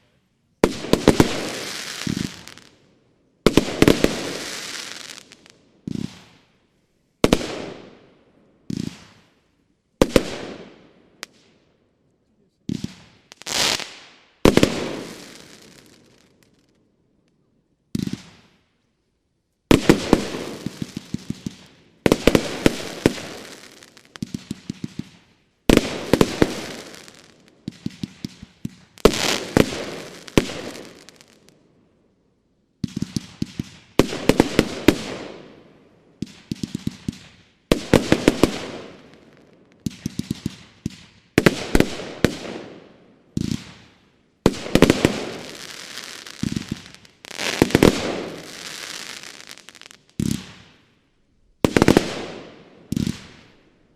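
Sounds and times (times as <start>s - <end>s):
firework volleys of sharp bangs: 0.6s - 2.8s, 3.4s - 6.6s, 7.2s - 9.4s, 10.0s - 11.6s, 12.6s - 16.8s, 17.9s - 18.6s, 19.7s - 31.6s, 32.8s - 53.9s.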